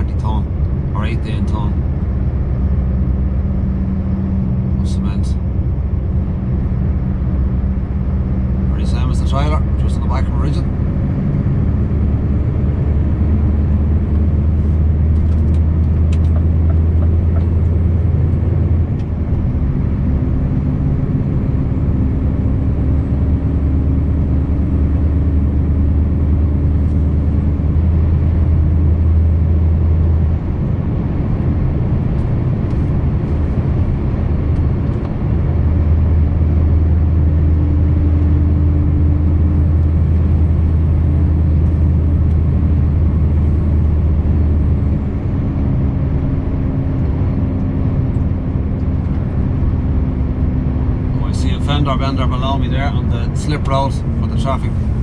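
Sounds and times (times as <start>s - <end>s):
road noise: 0.0s - 55.0s
truck engine drone in cab: 0.0s - 55.0s.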